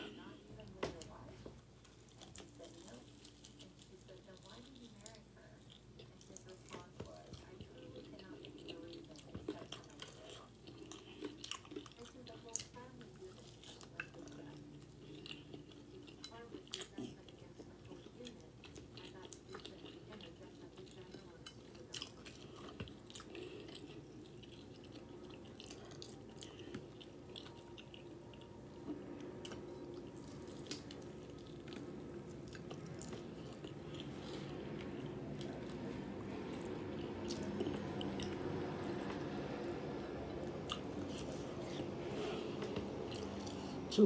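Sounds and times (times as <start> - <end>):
chewing and biting fried chicken: 1.8 - 43.9.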